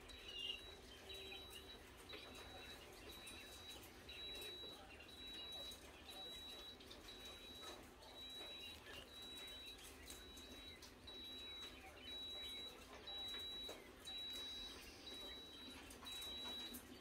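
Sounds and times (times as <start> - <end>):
faint high-pitched beeps: 0.0 - 17.0.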